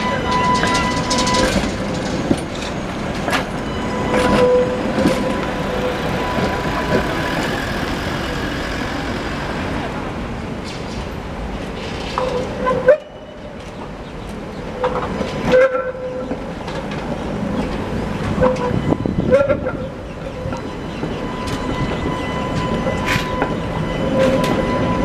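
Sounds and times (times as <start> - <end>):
trams rumbling over rail crossings: 0.0 - 25.0.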